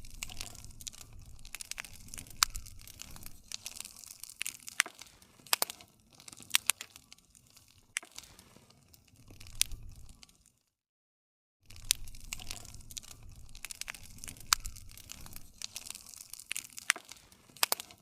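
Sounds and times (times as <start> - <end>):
campfire crackling: 0.0 - 10.6, 11.6 - 18.0.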